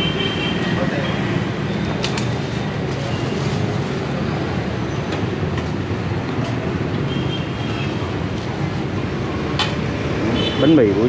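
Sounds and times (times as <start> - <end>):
street traffic with motorbikes: 0.0 - 11.0.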